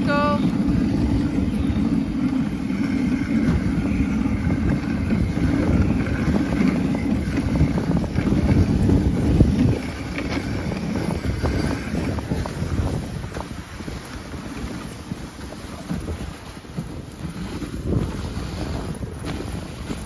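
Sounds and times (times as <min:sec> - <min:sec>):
sled runners on packed snow: 0:00.0 - 0:20.0
wind buffeting microphone: 0:00.0 - 0:20.0.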